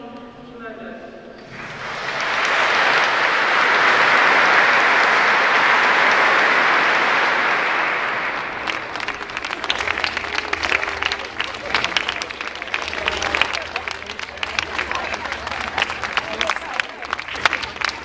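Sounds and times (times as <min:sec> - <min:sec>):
audience applauding: 0:01.4 - 0:18.0.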